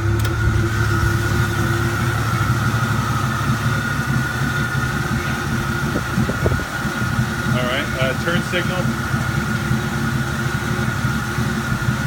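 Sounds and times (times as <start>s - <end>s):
high-pitched whine: 0.0s - 12.0s
tractor engine idling: 0.0s - 12.0s.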